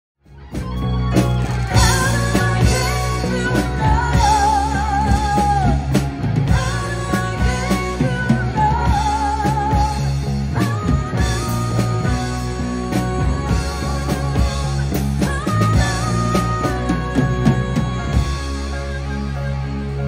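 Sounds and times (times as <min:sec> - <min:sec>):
drum kit: 0:00.2 - 0:20.0
electric bass: 0:00.2 - 0:20.0
electric guitar: 0:00.2 - 0:20.0
woman singing: 0:00.5 - 0:19.3.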